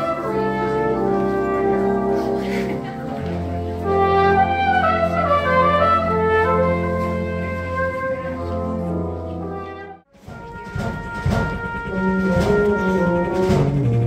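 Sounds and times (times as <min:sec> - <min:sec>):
brass ensemble playing: 0:00.0 - 0:14.0
low tuba note: 0:00.0 - 0:14.0.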